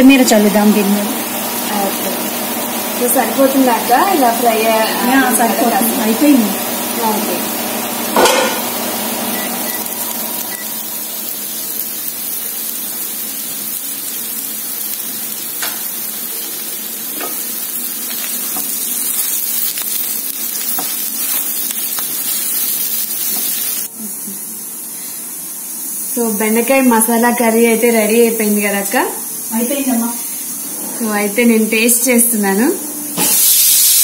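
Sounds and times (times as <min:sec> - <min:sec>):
okra sizzling in a pan: 0:00.0 - 0:34.0.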